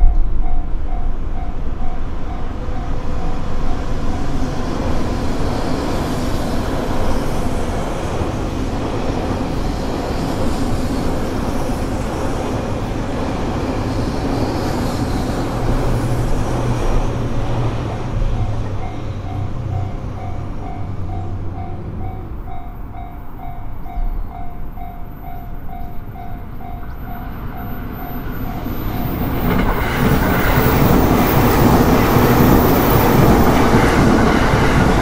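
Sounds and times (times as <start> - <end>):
train wheels rushing on rails: 0.0 - 35.0.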